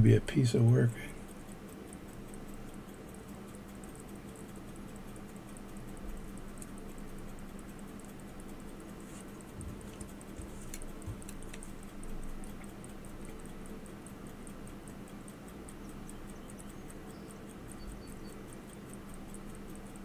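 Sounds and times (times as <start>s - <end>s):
pocket watch ticking: 0.0s - 20.0s.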